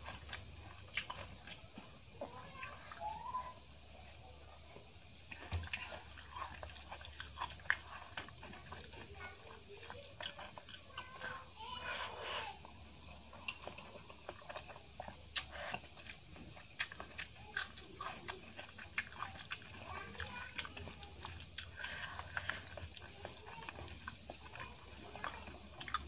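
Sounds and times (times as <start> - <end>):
wet chewing and lip smacks: 0.0 - 3.0, 5.3 - 11.4, 12.6 - 26.0.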